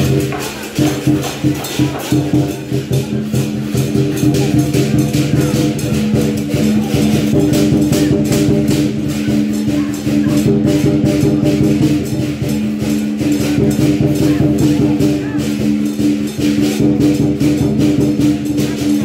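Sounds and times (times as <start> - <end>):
steady percussion beat: 0.0 - 19.0.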